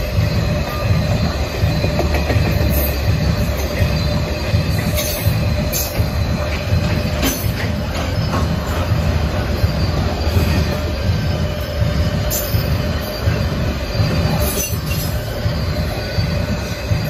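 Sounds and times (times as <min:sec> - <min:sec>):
train wheels rumbling on rail: 0:00.0 - 0:17.0
thin wheel squeal: 0:00.1 - 0:17.0.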